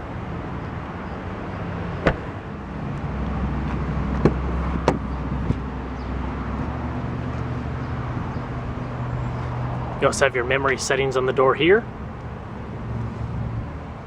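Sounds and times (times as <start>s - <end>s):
car low hum: 0.0s - 14.0s.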